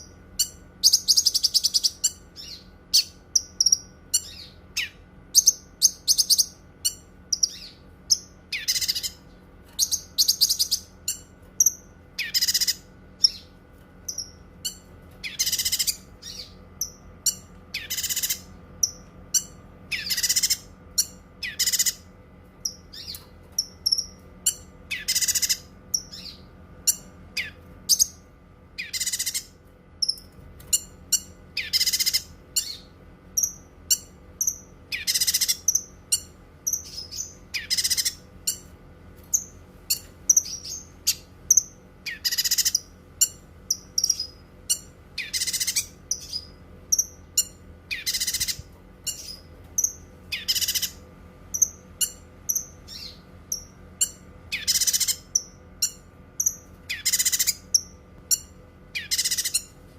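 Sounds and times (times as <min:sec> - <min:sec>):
bird singing high chirps: 0:00.0 - 0:28.2, 0:28.8 - 0:38.7, 0:39.4 - 0:59.7.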